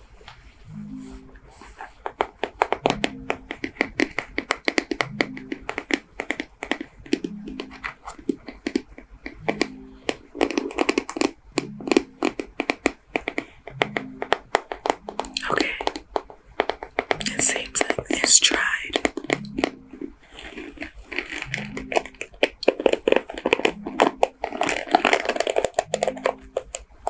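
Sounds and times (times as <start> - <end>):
hands tapping and crackling: 0.0 - 27.0
soft background music: 0.0 - 27.0.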